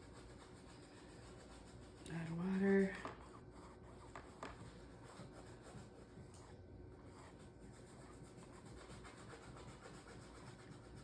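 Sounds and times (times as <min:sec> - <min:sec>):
paintbrush rubbing on canvas: 0:00.0 - 0:11.0.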